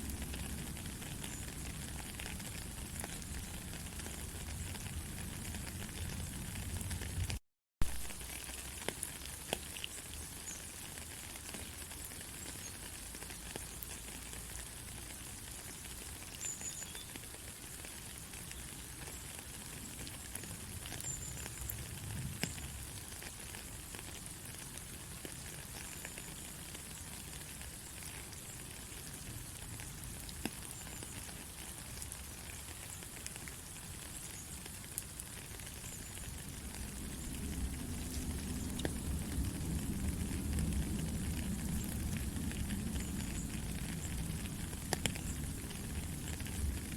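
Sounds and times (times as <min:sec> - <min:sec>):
raindrop ticks: 0:00.0 - 0:46.9
steady rain hiss: 0:00.0 - 0:46.9.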